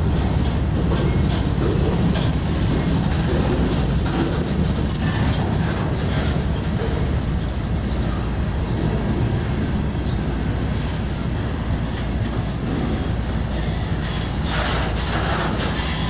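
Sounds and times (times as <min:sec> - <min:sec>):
steel wheels rumbling on rail: 0:00.0 - 0:16.0
train clicks and clanks: 0:00.0 - 0:16.0.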